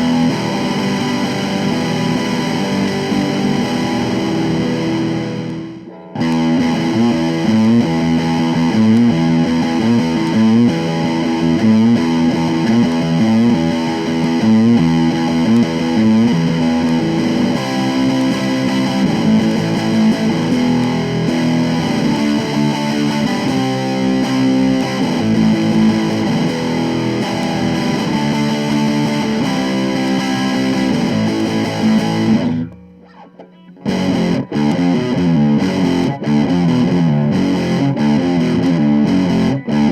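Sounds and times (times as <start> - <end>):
distorted electric guitar chords: 0.0 - 39.9.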